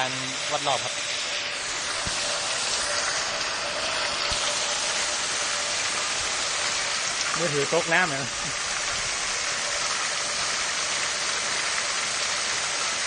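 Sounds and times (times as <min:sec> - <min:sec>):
water spraying and splashing: 0:00.0 - 0:13.0.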